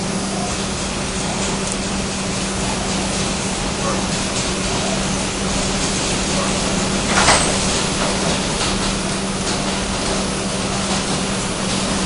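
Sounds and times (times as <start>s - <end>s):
subway train rolling on tracks: 0.0s - 12.0s.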